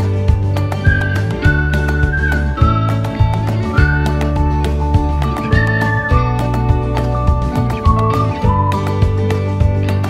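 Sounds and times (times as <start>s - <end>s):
electronic music with beat: 0.0s - 10.0s.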